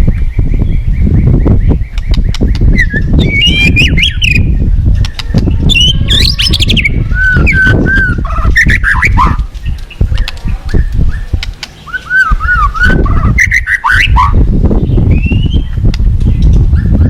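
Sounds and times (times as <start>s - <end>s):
songbird whistling: 0.6s - 10.0s, 11.1s - 15.8s.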